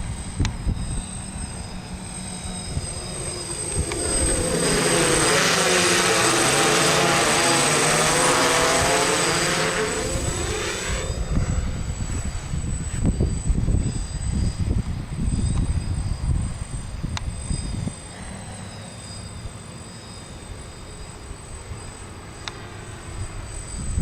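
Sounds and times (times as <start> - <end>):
wind buffeting microphone: 0.0 - 18.5, 23.1 - 24.0
drone propellers and motors: 0.0 - 24.0.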